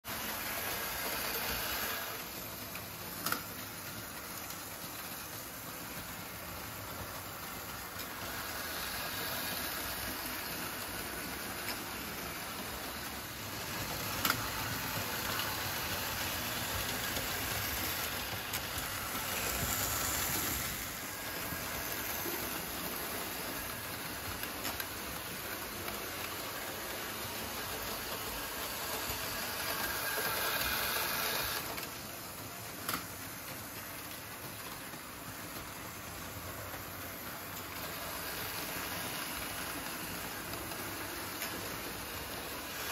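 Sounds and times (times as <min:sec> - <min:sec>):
model train rolling hiss: 0:00.1 - 0:42.9.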